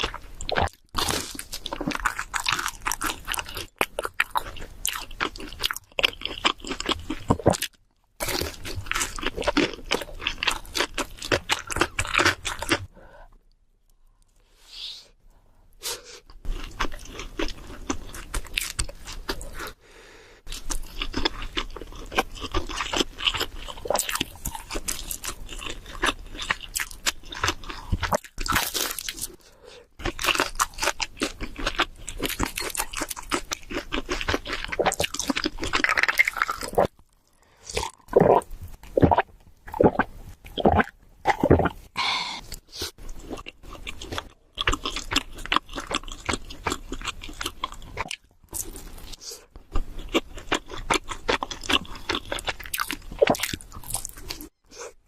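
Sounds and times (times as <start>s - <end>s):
chewing and crunching pizza: 0.0s - 12.9s, 16.3s - 19.8s, 20.5s - 55.0s.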